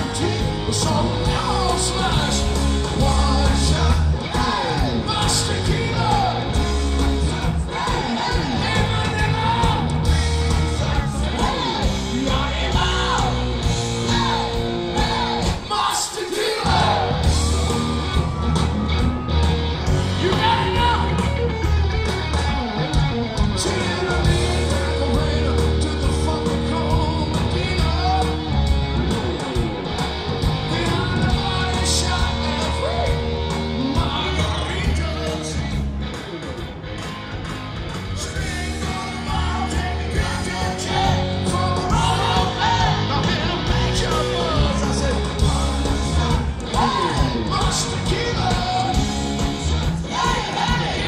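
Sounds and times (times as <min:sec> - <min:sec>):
person singing and yelling: 0:00.0 - 0:22.0, 0:23.5 - 0:28.6, 0:30.6 - 0:35.9, 0:38.2 - 0:51.0
rock band playing: 0:00.0 - 0:51.0.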